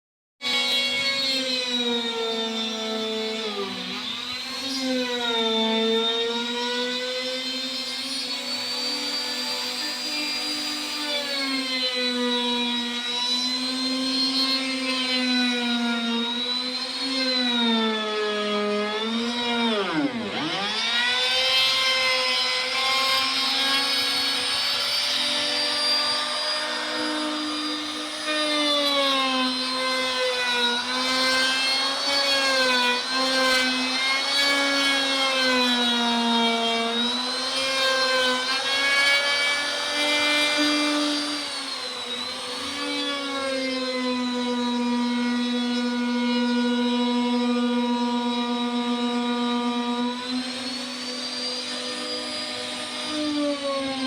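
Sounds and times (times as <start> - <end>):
power tool motor cutting plywood: 0.4 - 54.0.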